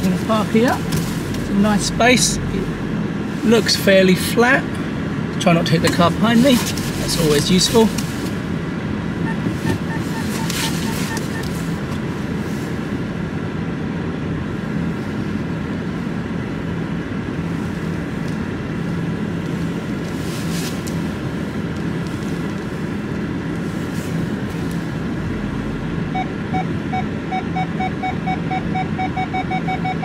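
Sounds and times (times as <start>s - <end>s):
car engine running at low speed: 0.0s - 30.0s.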